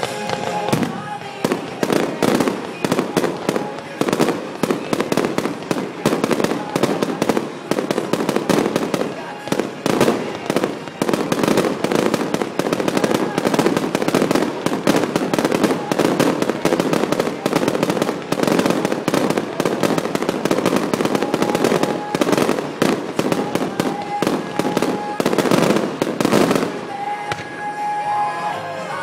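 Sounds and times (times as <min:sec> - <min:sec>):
fireworks bangs and crackling: 0:00.0 - 0:28.2.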